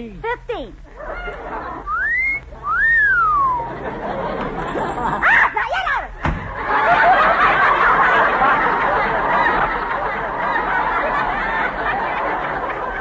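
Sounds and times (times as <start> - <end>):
studio audience laughing: 0.9 - 5.6, 6.5 - 13.0.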